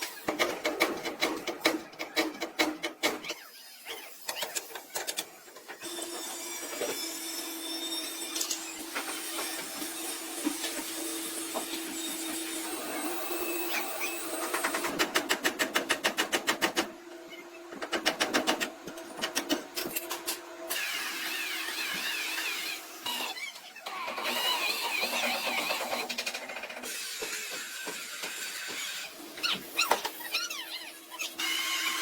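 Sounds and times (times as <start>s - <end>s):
workshop hum: 0.0s - 32.0s.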